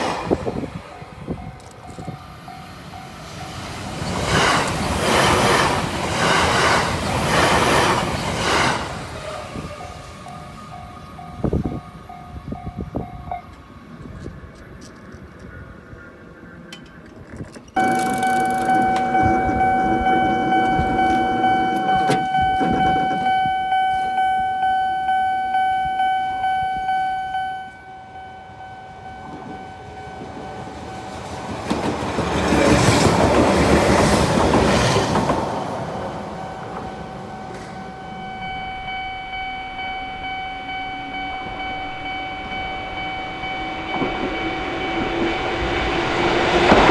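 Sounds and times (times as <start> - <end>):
train wheels on rail: 0.0 - 46.9
level-crossing warning bell: 0.2 - 8.0, 9.3 - 14.0, 17.8 - 46.9.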